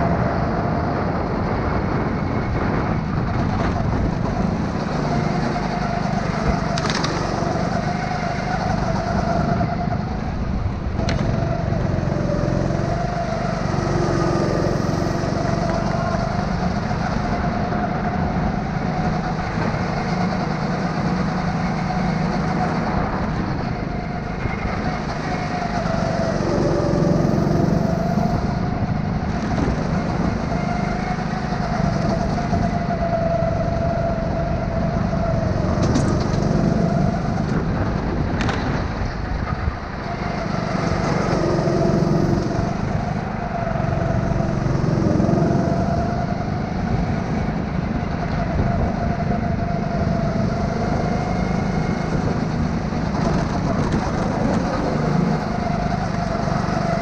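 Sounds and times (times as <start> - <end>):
go-kart engine drone: 0.0 - 57.0.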